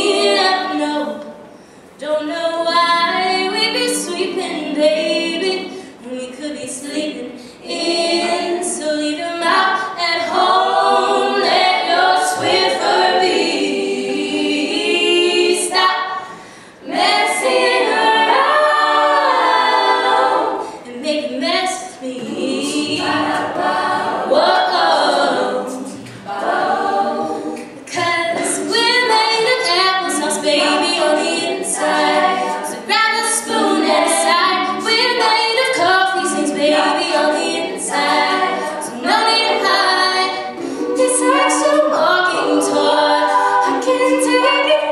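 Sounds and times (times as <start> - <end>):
women singing a cappella: 0.0 - 44.9.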